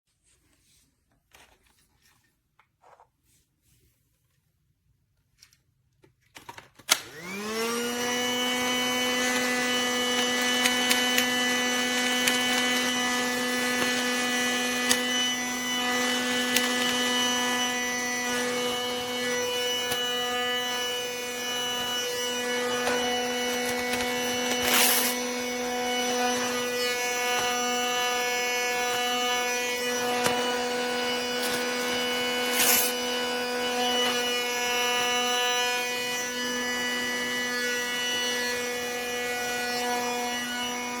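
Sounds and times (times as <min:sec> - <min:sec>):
toy vacuum motor whine: 0:06.4 - 0:41.0.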